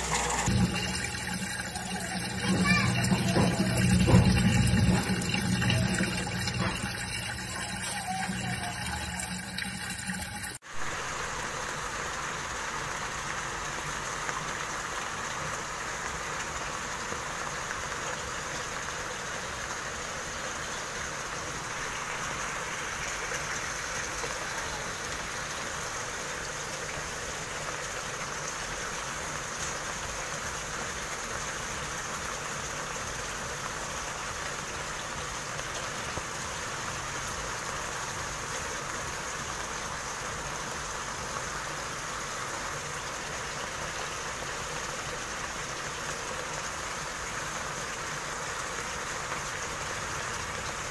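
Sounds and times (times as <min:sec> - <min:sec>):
rush of water and bubbles: 0:00.0 - 0:50.9.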